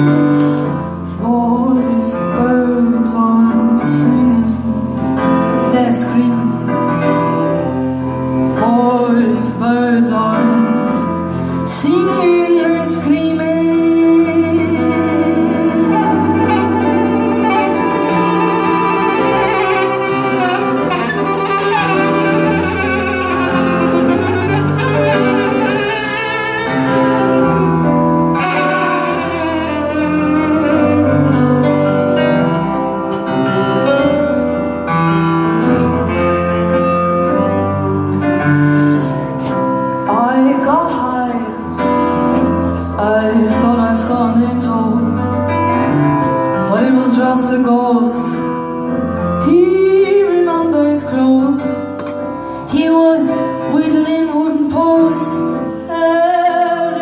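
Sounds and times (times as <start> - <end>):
band playing slow instrumental: 0.0 - 57.0.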